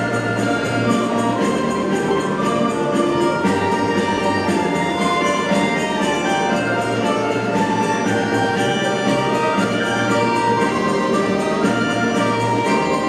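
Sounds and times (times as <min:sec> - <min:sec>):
orchestral music with brass: 0:00.0 - 0:13.0.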